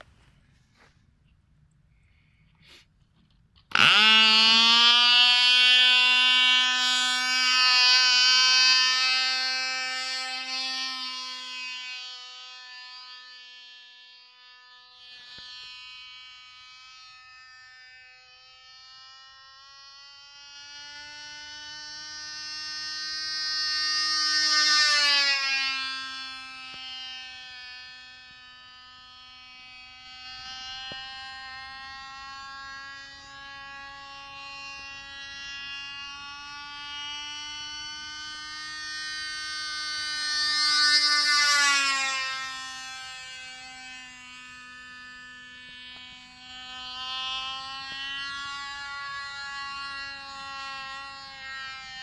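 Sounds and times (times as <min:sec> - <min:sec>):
model plane engine buzzing: 0:00.0 - 0:52.0.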